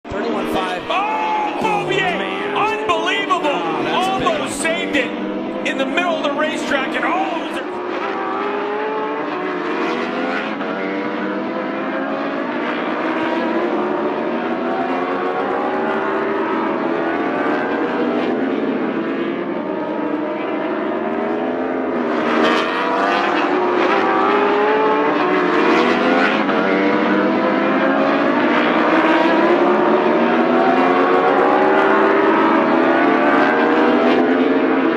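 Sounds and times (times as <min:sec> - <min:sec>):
racing motorcycle engines revving: 0:00.1 - 0:34.9.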